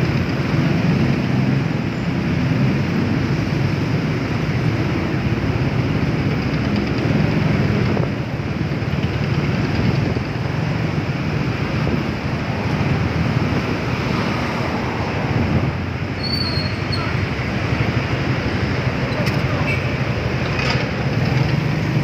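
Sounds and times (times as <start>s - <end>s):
rushing noise: 0.0s - 22.0s.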